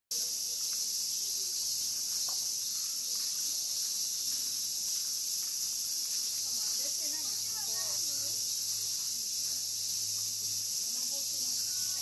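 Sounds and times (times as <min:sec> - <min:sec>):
high-pitched insect chorus: 0:00.1 - 0:12.0.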